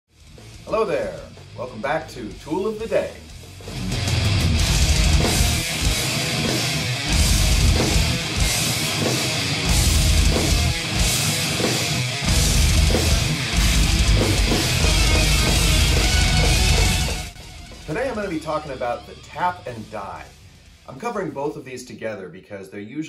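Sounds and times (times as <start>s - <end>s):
heavy metal music: 0.1s - 21.5s.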